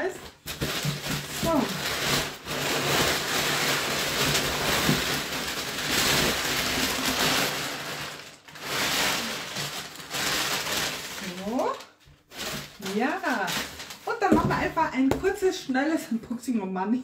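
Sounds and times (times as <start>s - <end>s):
packing material rustling: 0.0s - 15.4s.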